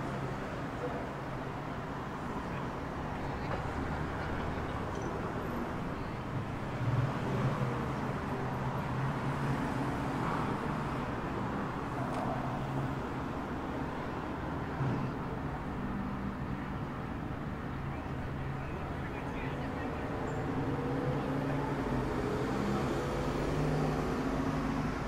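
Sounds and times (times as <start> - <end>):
distant city traffic: 0.0 - 25.0.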